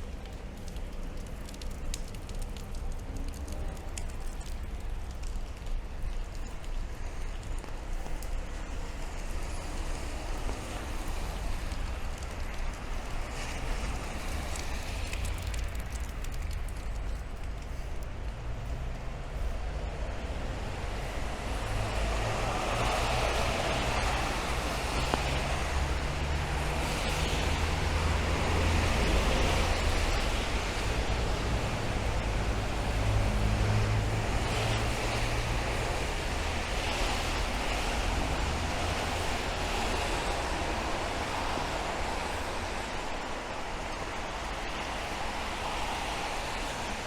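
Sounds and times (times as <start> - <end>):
rain falling on streets: 0.0 - 47.0
road traffic passing: 6.4 - 47.0.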